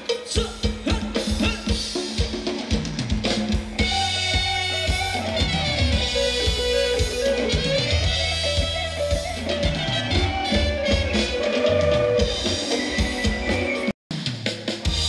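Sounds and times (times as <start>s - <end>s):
drum kit beat: 0.0s - 15.0s
live band playing dance music: 0.0s - 15.0s.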